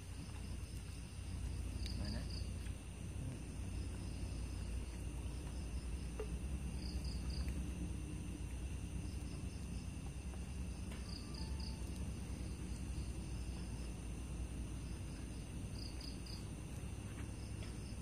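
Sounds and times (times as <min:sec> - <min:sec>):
crickets trilling: 0:00.0 - 0:18.0
low steady rumble: 0:00.0 - 0:18.0.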